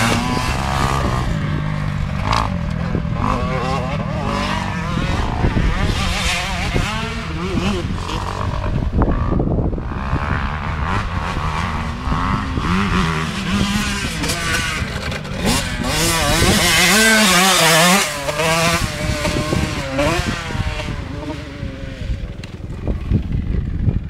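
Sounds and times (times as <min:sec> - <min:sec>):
motocross bike engines revving: 0:00.0 - 0:24.0
motorbike passing close: 0:00.0 - 0:24.0.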